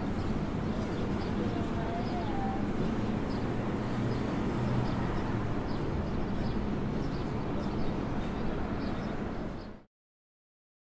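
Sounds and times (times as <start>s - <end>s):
city noise hum: 0.0s - 9.9s.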